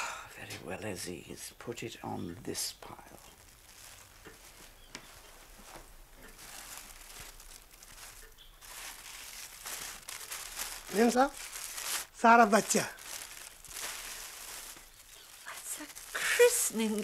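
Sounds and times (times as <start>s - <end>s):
tissue paper rustling: 2.9s - 17.0s.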